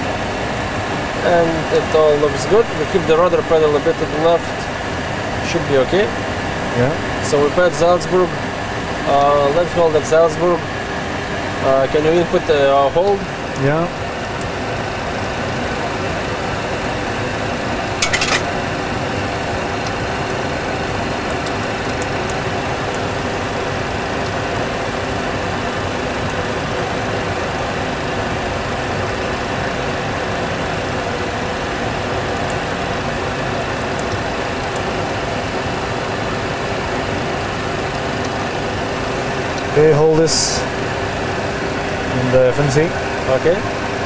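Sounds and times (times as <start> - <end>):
cockpit engine and airflow hum: 0.0 - 44.0.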